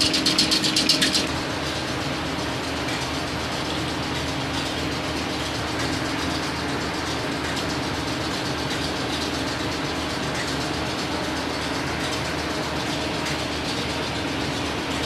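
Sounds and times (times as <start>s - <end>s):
fast machine rattle: 0.0s - 15.0s
machine humming: 0.0s - 15.0s.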